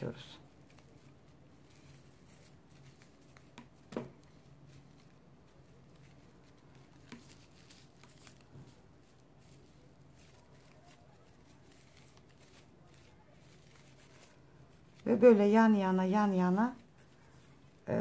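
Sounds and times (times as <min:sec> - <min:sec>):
faint rustling of strands: 0:00.0 - 0:18.0.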